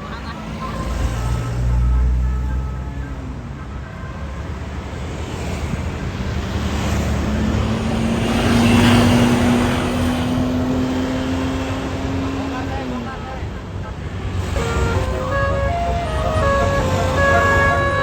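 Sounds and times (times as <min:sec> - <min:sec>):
bus driving past: 0:00.0 - 0:18.0.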